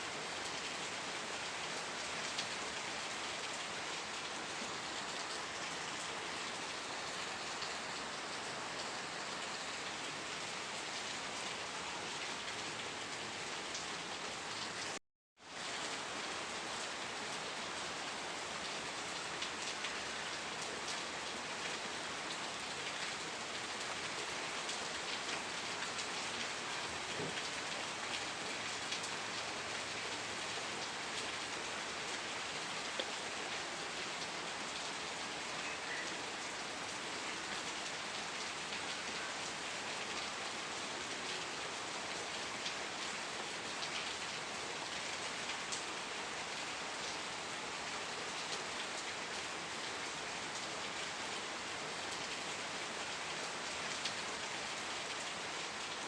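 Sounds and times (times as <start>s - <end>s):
dense rain falling: 0.0s - 56.0s.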